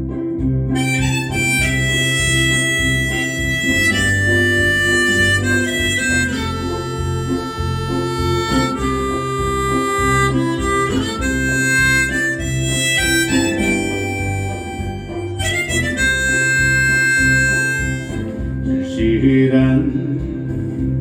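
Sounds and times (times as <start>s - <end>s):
guitar accompaniment: 0.0s - 21.0s
harmonica slow melody: 0.0s - 21.0s.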